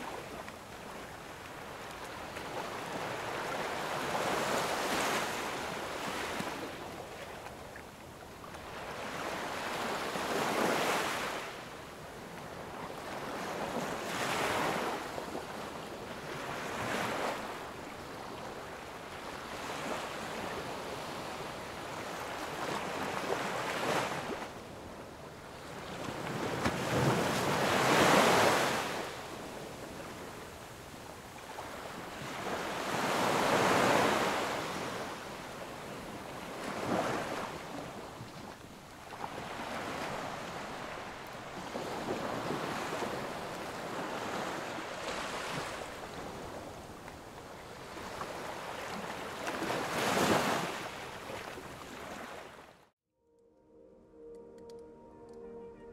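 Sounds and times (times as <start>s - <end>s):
waves washing up a beach: 0.0s - 52.9s.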